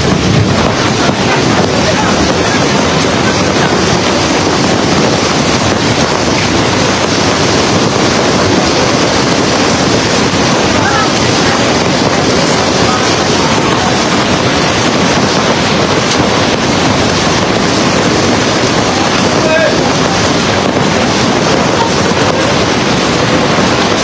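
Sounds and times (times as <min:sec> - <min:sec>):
heavy rain and hail pouring: 0:00.0 - 0:24.0.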